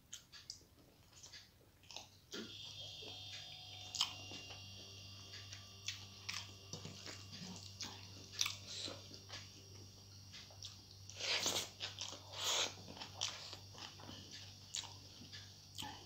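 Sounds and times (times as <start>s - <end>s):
chewing food: 0.1s - 3.2s, 3.8s - 4.7s, 5.3s - 16.0s
low steady hum: 0.1s - 16.0s.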